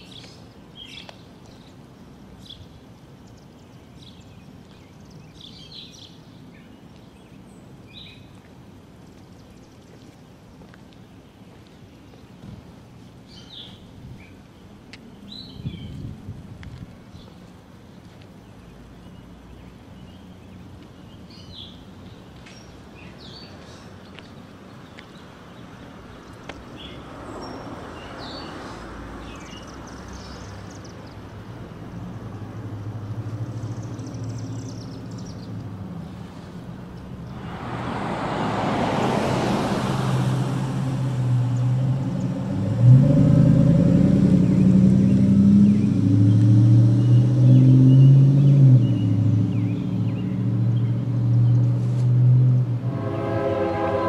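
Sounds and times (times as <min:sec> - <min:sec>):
small birds chirping: 0:00.0 - 0:16.1, 0:16.7 - 0:37.6, 0:44.2 - 0:52.0
cars passing by: 0:00.0 - 0:54.0.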